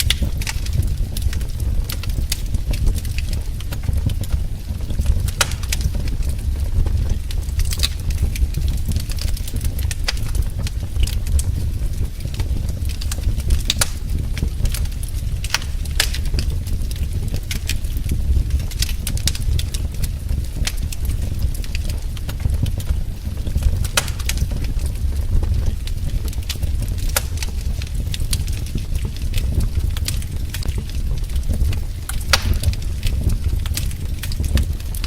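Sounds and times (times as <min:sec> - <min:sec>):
low rumble of burning fire: 0:00.0 - 0:35.0
wood fire crackling: 0:00.0 - 0:35.0.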